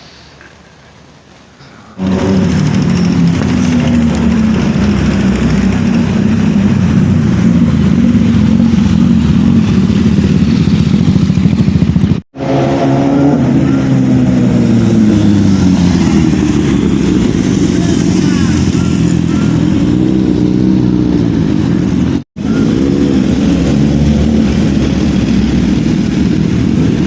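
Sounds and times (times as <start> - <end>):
motorcycle engine running: 2.0 - 27.0.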